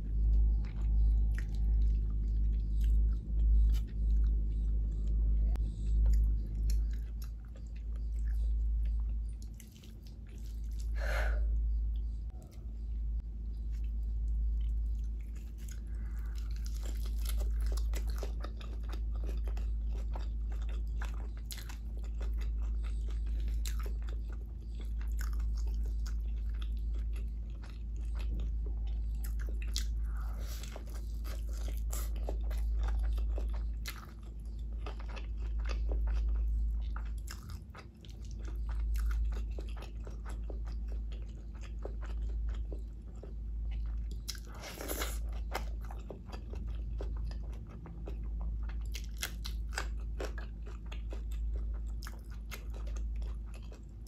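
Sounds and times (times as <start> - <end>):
person chewing and crunching: 0.0 - 12.8, 13.5 - 54.0
steady low rumble: 0.0 - 54.0.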